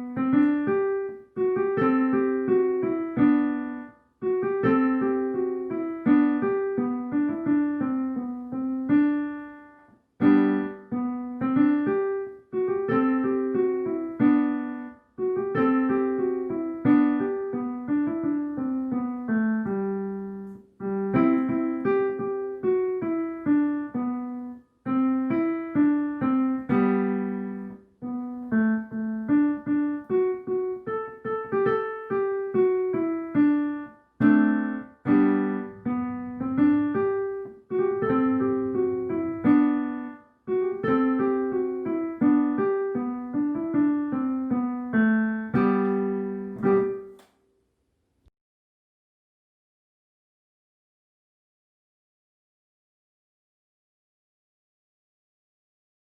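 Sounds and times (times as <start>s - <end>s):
solo piano piece: 0.0s - 47.4s.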